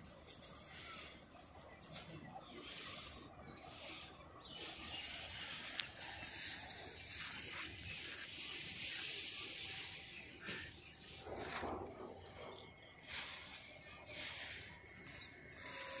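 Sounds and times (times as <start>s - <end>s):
outdoor ambience hiss: 0.0s - 16.0s.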